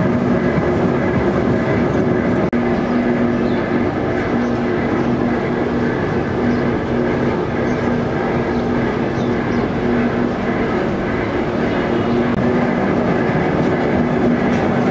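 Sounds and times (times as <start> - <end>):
mill machinery running: 0.0 - 14.9.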